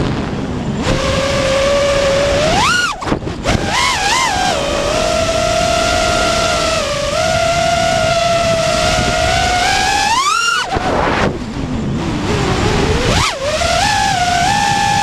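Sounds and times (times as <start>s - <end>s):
drone motors whining: 0.0s - 15.0s
wind rush: 0.0s - 15.0s.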